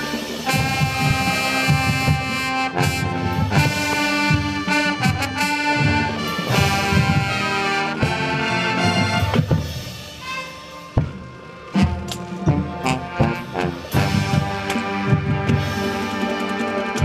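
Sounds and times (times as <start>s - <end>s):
marching band brass chords: 0.0s - 17.0s
sharp percussion hits: 0.0s - 17.0s.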